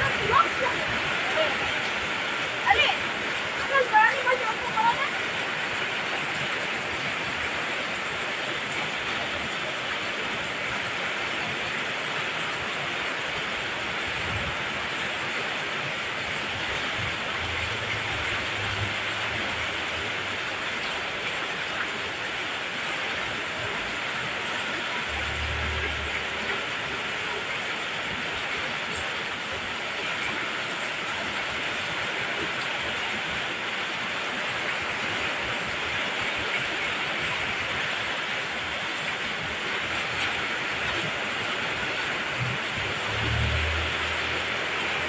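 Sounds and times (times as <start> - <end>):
heavy rain pouring: 0.0 - 45.0.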